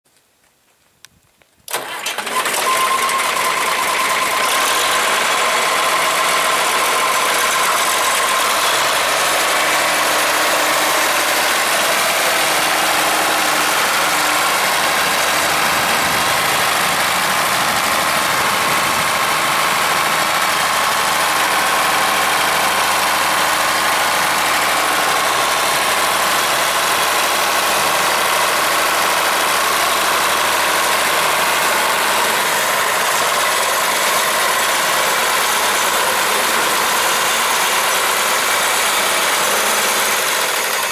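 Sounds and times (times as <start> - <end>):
tractor diesel engine running: 1.7 - 40.9.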